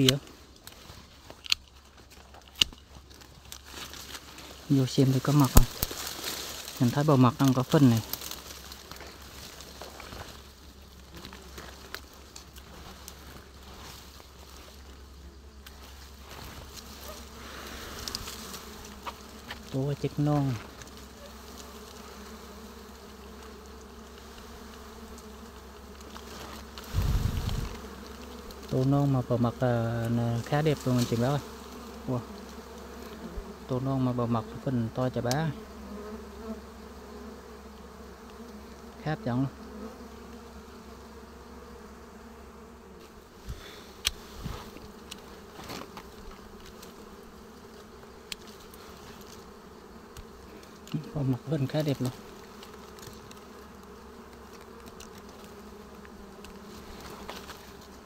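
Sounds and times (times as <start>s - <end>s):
bees buzzing: 3.0s - 58.0s.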